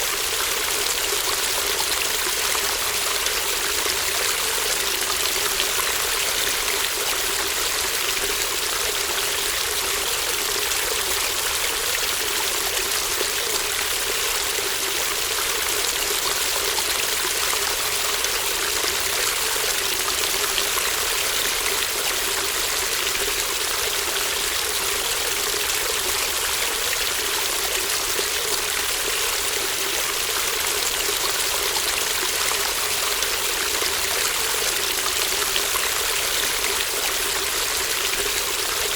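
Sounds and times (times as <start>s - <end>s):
stream water flowing and trickling: 0.0s - 38.9s.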